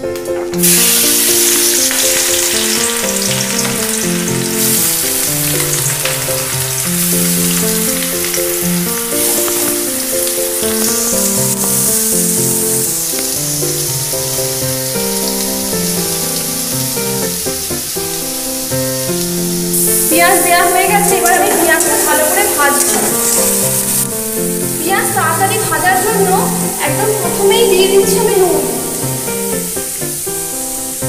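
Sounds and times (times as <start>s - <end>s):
background music melody: 0.0s - 31.0s
spices and onion sizzling in oil: 0.0s - 31.0s.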